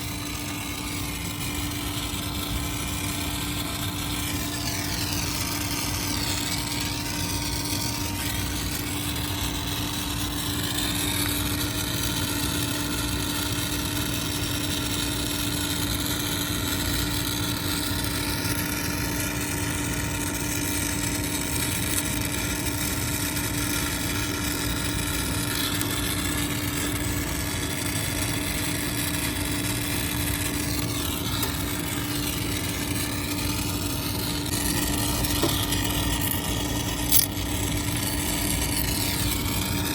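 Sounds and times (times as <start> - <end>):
machine motor humming: 0.0 - 14.6, 19.0 - 39.9.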